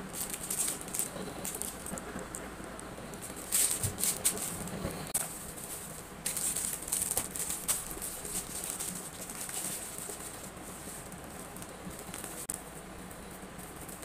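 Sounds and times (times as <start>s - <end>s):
packaging rustling and crinkling: 0.0s - 12.6s.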